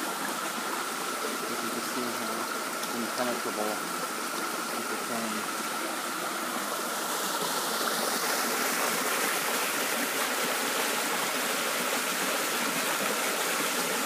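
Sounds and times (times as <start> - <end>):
creek running over stones: 0.0 - 14.0.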